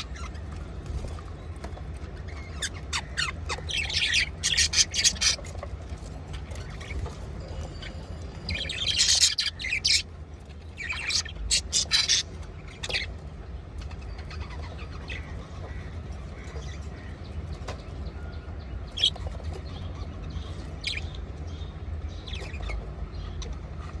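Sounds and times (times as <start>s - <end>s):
budgerigars chirping: 0.0s - 1.1s, 2.1s - 23.6s.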